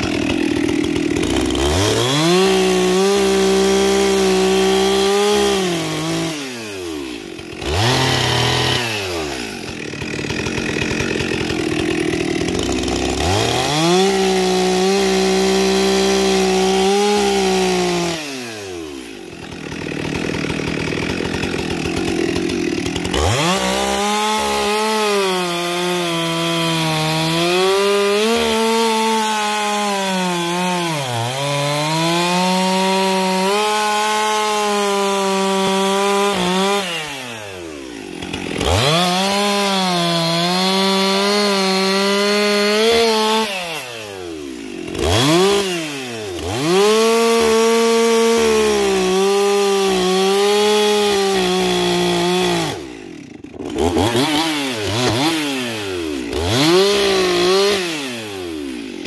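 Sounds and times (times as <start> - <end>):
chainsaw cutting logs: 0.0 - 59.0.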